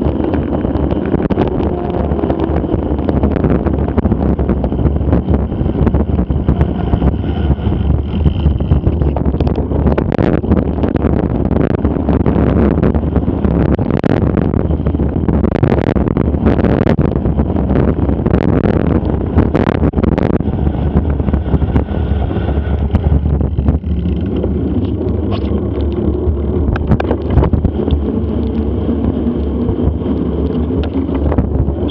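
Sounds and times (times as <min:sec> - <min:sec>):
bike rattling and knocking: 0:00.0 - 0:31.9
wind buffeting microphone: 0:00.0 - 0:31.9.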